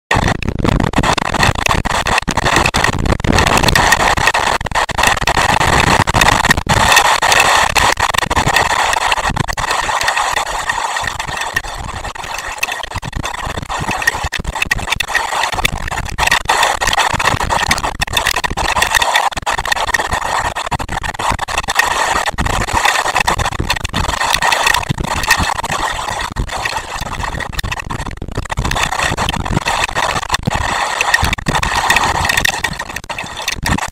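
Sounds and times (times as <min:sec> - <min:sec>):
heavy rain pouring: 0:00.1 - 0:33.9
raindrops clicking near microphone: 0:00.1 - 0:33.9.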